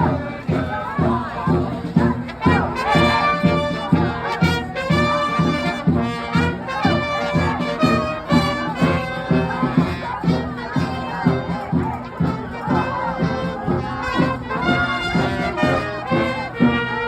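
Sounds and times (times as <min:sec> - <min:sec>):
drum beat: 0:00.0 - 0:16.9
brass band playing: 0:00.0 - 0:17.0.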